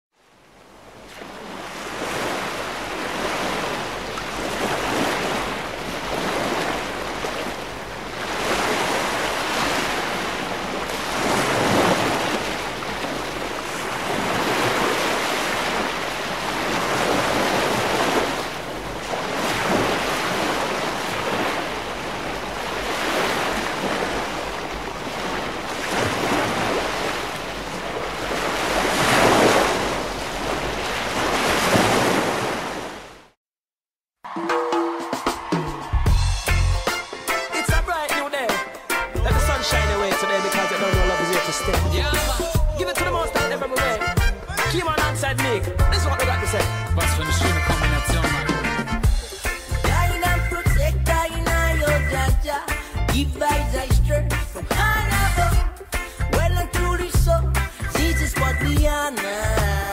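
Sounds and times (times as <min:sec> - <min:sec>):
ocean waves breaking: 0:00.2 - 0:33.4, 0:35.0 - 0:56.5.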